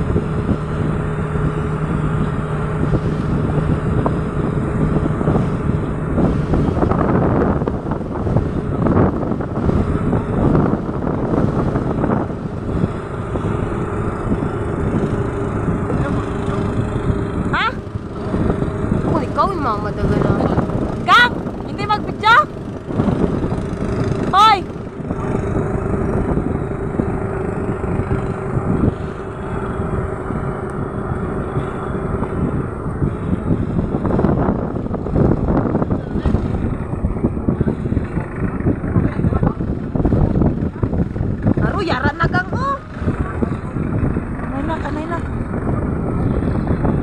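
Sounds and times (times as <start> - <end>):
boat engine running: 0.0 - 47.0
gusty wind on microphone: 0.0 - 47.0.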